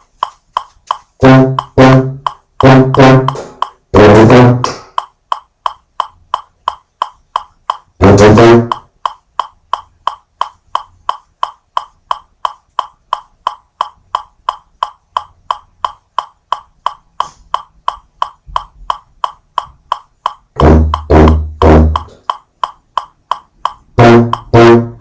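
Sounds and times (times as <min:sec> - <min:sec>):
metronome clicking: 0:00.0 - 0:25.0.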